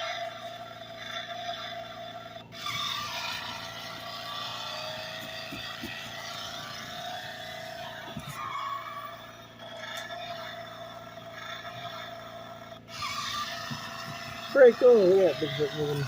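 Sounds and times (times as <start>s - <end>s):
toy engine sound effect: 0.0s - 16.0s.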